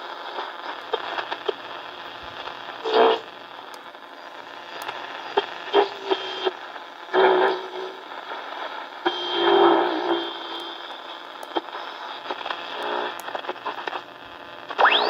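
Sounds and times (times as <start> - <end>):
crackling clicks: 0.0 - 6.6, 7.8 - 15.0
muffled radio station audio: 0.0 - 15.0
radio static hiss: 0.0 - 15.0.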